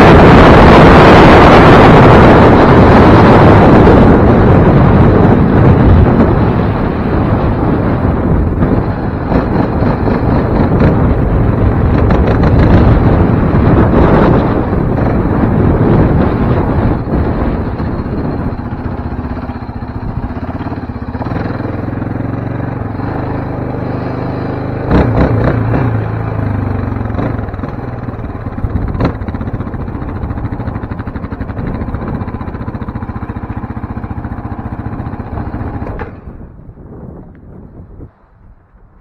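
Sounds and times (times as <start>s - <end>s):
quad bike engine at low speed: 0.0s - 39.0s.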